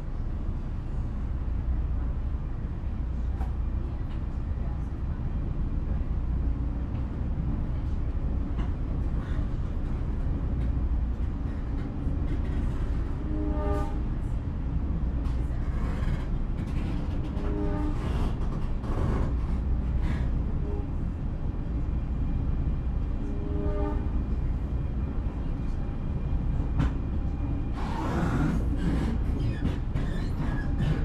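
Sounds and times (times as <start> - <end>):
train rumbling on track: 0.0 - 31.0.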